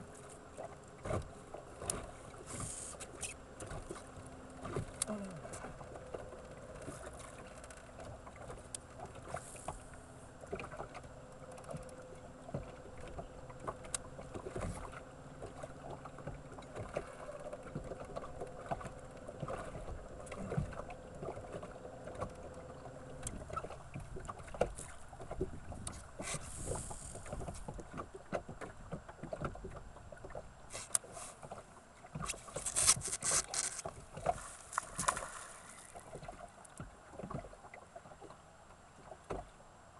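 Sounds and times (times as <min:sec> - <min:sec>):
low steady hum: 0:00.0 - 0:39.9
water lapping against hull: 0:00.0 - 0:39.9.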